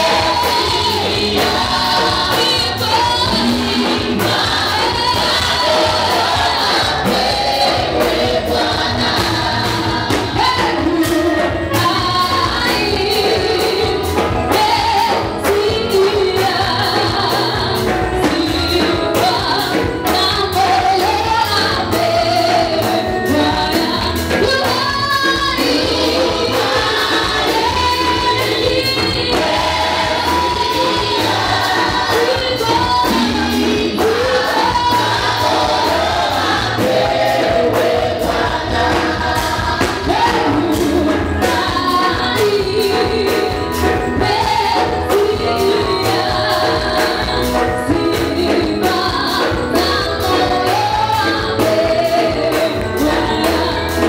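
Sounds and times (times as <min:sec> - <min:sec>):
drum kit beat: 0:00.0 - 0:54.0
electric keyboard: 0:00.0 - 0:54.0
women singing gospel: 0:00.0 - 0:54.0.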